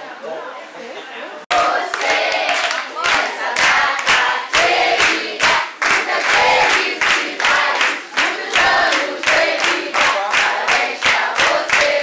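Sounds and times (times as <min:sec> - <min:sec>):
group chanting and shouting: 0:01.5 - 0:12.0.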